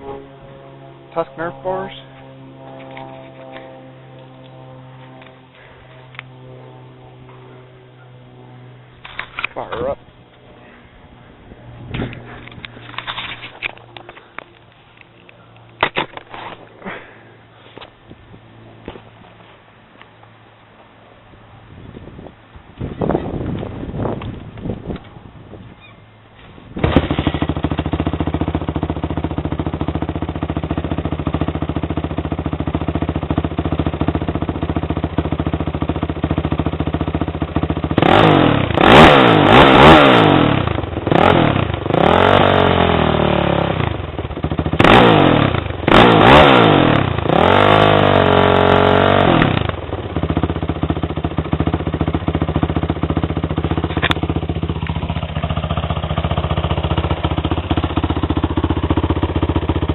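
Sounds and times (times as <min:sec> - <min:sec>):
quad engine idling and revving: 0:00.0 - 0:19.2, 0:26.7 - 0:59.9.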